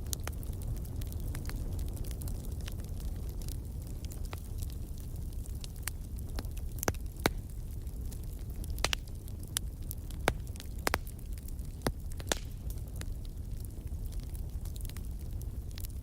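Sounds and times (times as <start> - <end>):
fireplace fire crackling: 0.0 - 16.0
low rumble of burning fire: 0.0 - 16.0.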